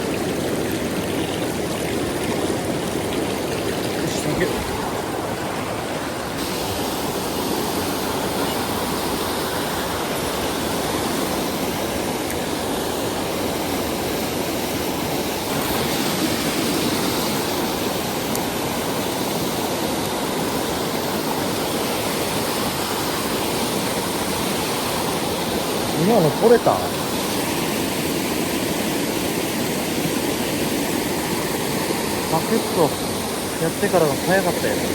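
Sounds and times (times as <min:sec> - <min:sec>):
rushing mountain stream: 0:00.0 - 0:34.9.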